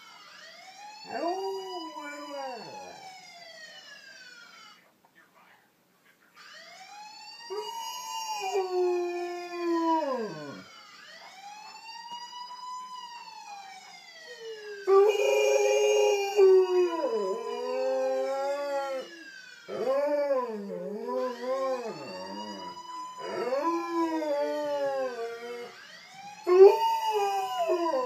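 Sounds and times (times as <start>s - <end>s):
wailing siren: 0.0s - 4.9s, 6.4s - 28.0s.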